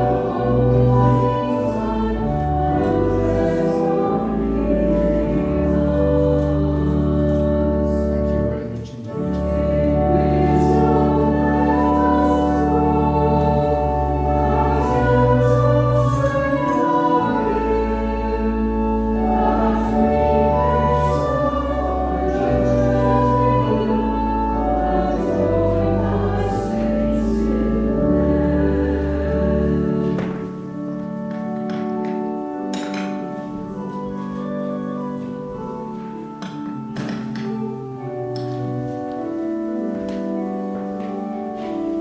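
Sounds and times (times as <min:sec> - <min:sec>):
congregation singing a hymn: 0:00.0 - 0:42.0
organ accompaniment: 0:00.0 - 0:42.0.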